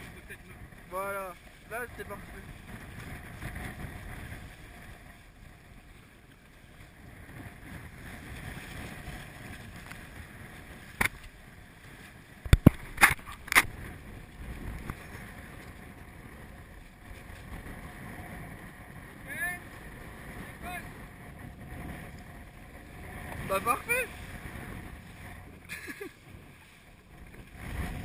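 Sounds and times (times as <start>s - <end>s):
wind and sea rushing: 0.0s - 28.0s.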